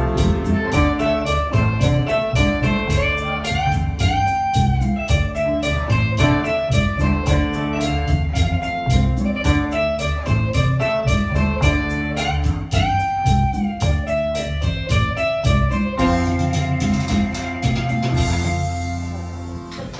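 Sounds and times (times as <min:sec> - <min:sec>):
bass and drum beat: 0:00.0 - 0:19.9
plucked-string melody: 0:00.0 - 0:19.9.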